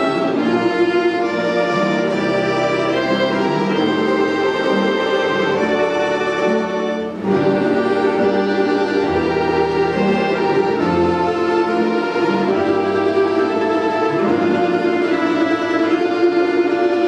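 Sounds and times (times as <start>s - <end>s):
folk instrument ensemble playing: 0.0s - 17.0s.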